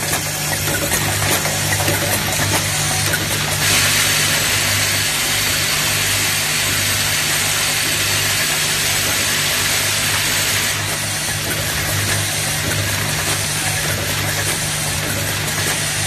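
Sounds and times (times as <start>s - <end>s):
loud machine hiss: 3.1s - 16.0s.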